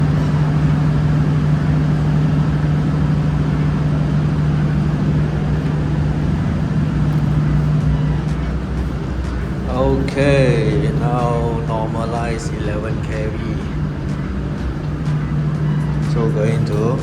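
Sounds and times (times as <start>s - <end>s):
generator engine droning: 0.0s - 17.0s.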